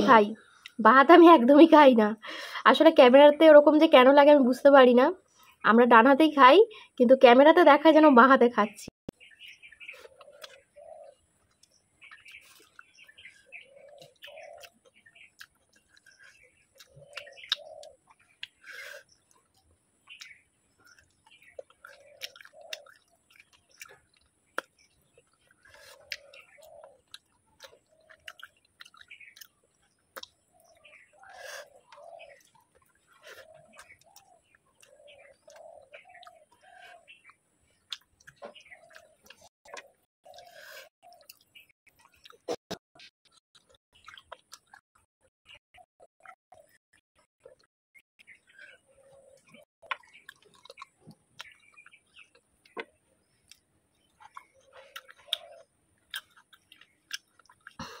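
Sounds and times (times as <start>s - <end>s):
faint birds chirping: 0.0s - 44.8s, 45.4s - 58.0s
person chewing food: 9.8s - 45.1s, 46.2s - 58.0s.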